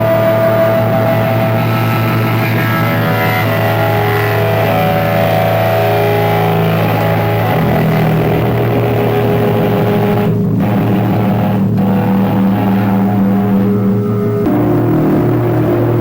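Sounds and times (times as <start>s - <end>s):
distorted droning noise music: 0.0s - 16.0s.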